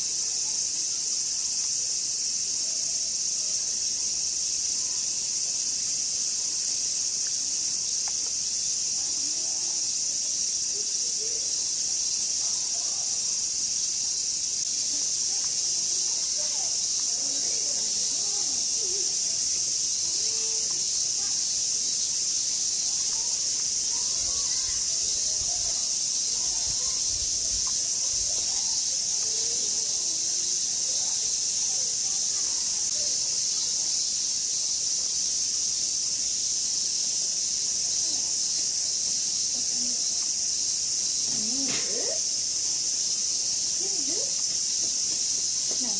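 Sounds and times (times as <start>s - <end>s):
cicadas chorus: 0.0s - 45.9s.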